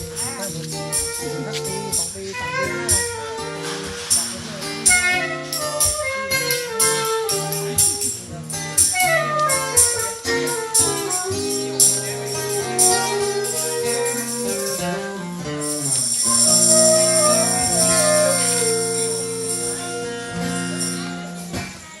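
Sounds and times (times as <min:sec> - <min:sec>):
cymbals washing: 0:00.0 - 0:22.0
live band playing instrumental: 0:00.0 - 0:22.0.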